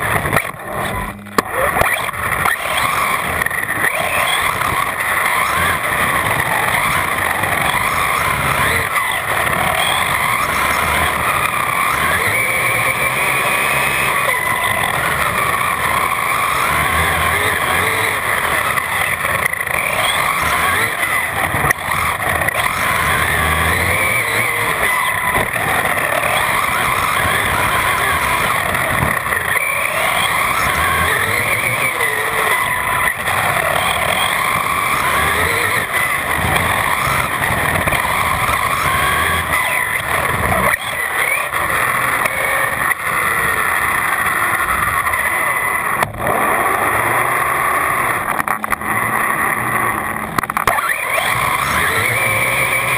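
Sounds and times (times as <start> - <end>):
electric motor whine: 0.0 - 52.9
tyre noise on asphalt: 0.0 - 52.9.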